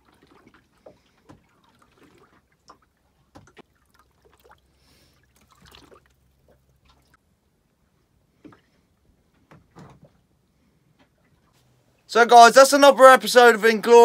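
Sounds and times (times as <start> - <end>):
water lapping against hull: 0.0 - 12.1.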